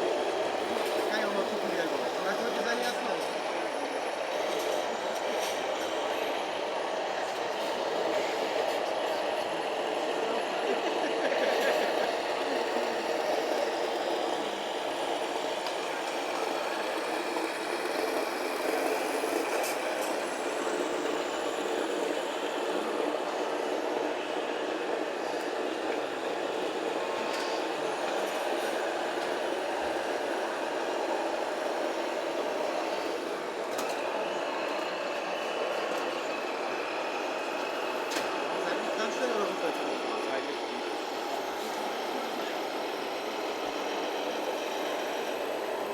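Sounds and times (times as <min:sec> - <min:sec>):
model trucks running: 0:00.0 - 0:45.9.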